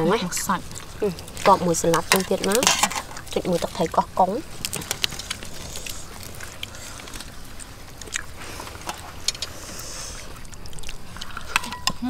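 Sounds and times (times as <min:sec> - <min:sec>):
lettuce leaves rustling: 0:00.0 - 0:11.8
low background rumble: 0:00.0 - 0:12.0.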